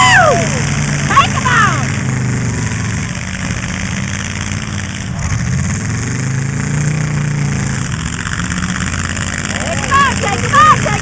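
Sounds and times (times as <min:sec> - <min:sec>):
car engines running hard: 0:00.0 - 0:11.0.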